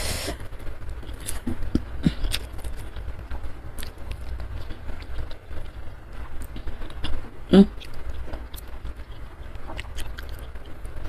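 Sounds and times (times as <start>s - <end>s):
person chewing food: 1.0s - 11.0s.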